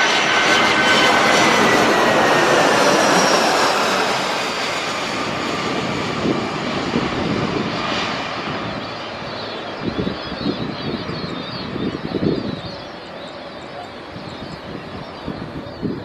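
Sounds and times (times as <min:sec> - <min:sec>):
faint engine whine: 0:00.0 - 0:16.0
jet engines running: 0:00.0 - 0:16.0.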